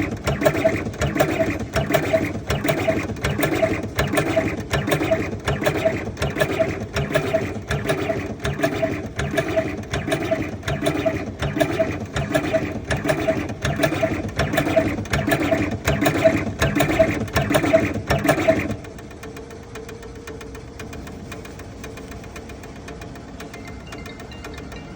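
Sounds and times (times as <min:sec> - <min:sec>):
machine clicking and whirring: 0:00.0 - 0:24.9.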